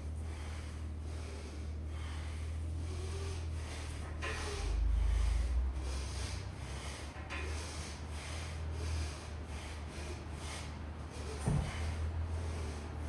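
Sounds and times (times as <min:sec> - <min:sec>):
person breathing hard: 0:00.0 - 0:13.0
steady low hum: 0:00.0 - 0:13.0.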